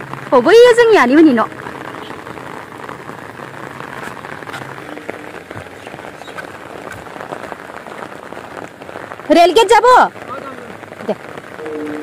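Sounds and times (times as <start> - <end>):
steady rain on water: 0.0 - 12.0.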